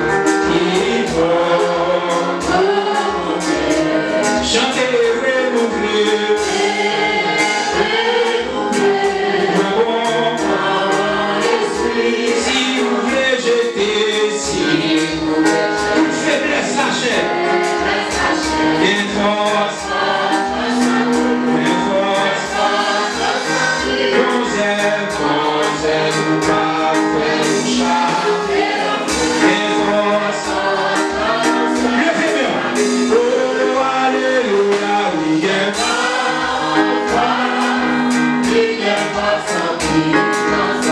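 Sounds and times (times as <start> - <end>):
congregation singing worship song: 0.0 - 40.9
steady driving beat: 0.0 - 40.9.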